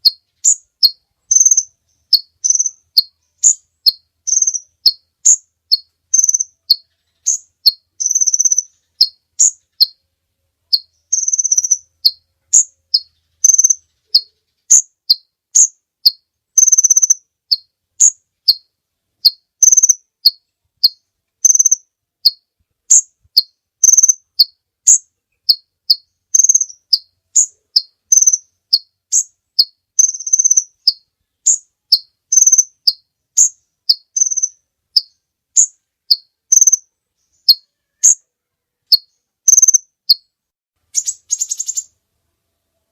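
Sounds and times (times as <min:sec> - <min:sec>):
sunbird chirping: 0:00.0 - 0:10.0, 0:10.6 - 0:42.9.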